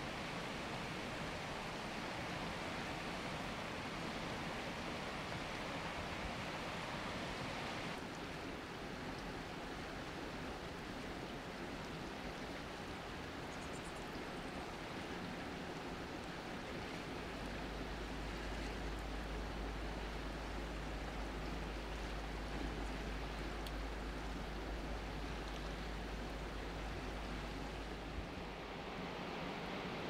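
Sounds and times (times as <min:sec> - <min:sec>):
river rushing in flood: 0:00.0 - 0:30.0.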